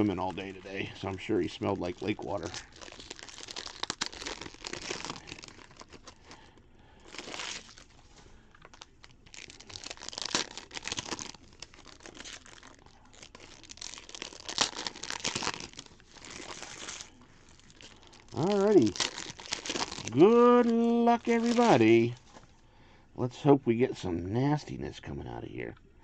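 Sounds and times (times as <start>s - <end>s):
foil wrappers crinkling and tearing: 0.0s - 22.5s.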